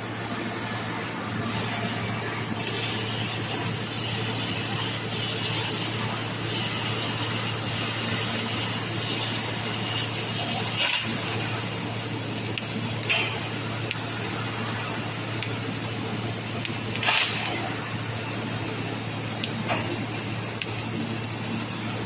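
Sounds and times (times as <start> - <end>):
laser cutter rushing hiss: 0.0 - 22.0
low machine hum: 0.0 - 22.0.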